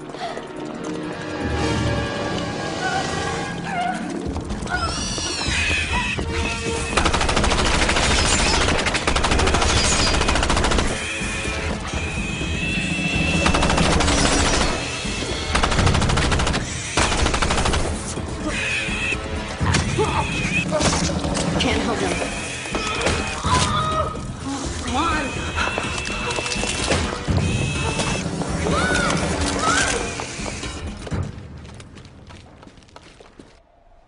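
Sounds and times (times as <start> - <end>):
film score music: 0.0 - 34.0.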